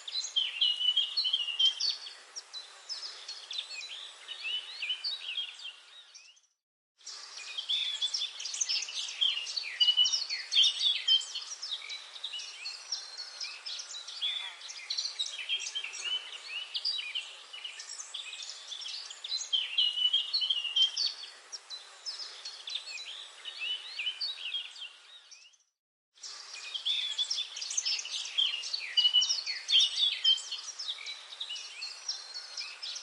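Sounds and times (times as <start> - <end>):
birds chirping chorus: 0.0 - 33.0.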